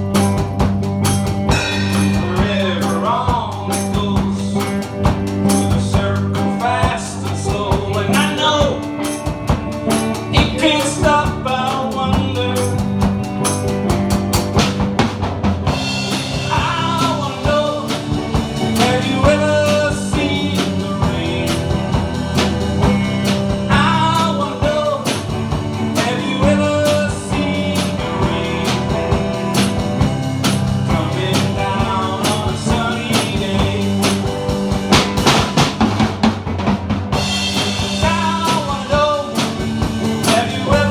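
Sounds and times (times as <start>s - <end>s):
song with vocal and drums: 0.0s - 40.9s.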